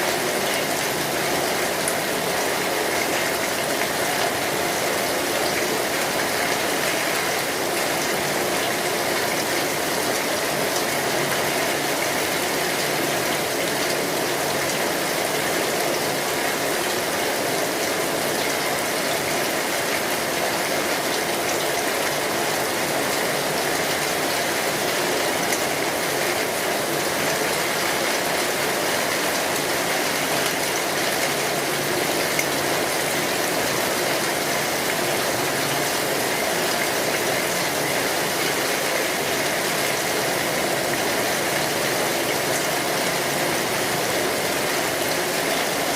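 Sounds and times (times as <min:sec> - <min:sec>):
heavy rain on a metal roof: 0:00.0 - 0:45.9.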